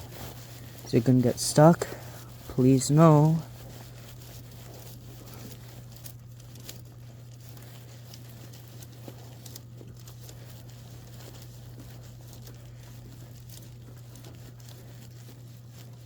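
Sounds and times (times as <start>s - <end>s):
wire rustling in pipe: 0.0s - 16.0s.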